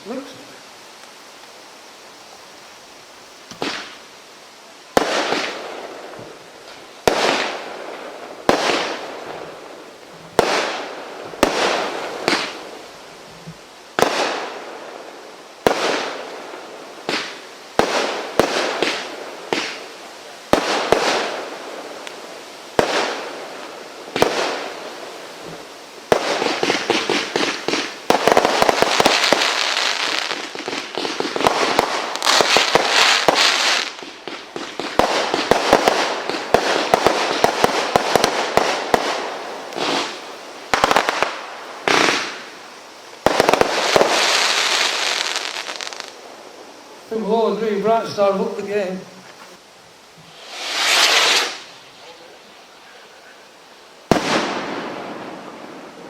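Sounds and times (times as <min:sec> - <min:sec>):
fireworks bangs with hiss: 0:00.0 - 0:56.0
fireworks crackling: 0:00.0 - 0:56.0.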